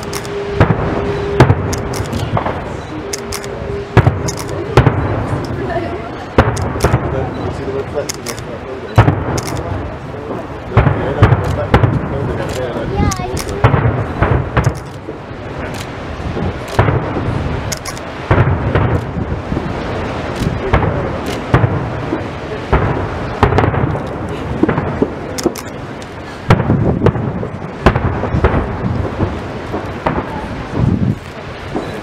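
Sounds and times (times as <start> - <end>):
firework shells bursting: 0.0 - 5.7, 6.3 - 7.3, 8.0 - 9.8, 10.7 - 32.0.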